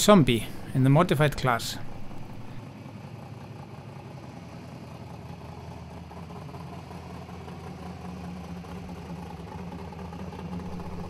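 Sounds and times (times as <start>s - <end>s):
buggy engine low drone: 0.0s - 11.0s.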